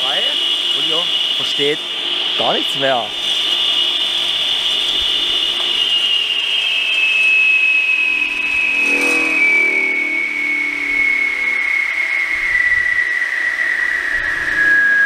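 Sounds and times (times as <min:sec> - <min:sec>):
wet tile saw whining: 0:00.0 - 0:15.0.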